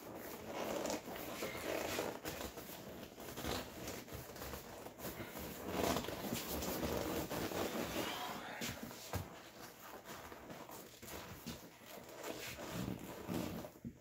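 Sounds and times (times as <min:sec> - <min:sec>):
seat cover rustling and rubbing: 0:00.0 - 0:14.0.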